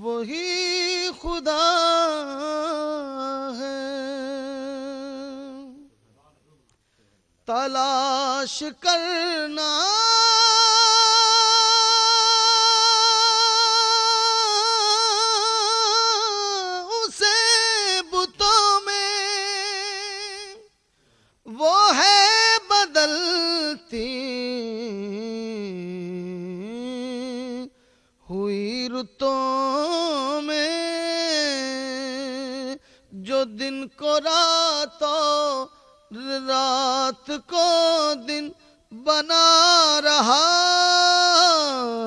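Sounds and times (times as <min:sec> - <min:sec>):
man singing into a microphone: 0:00.0 - 0:05.9, 0:07.4 - 0:20.8, 0:21.4 - 0:42.0.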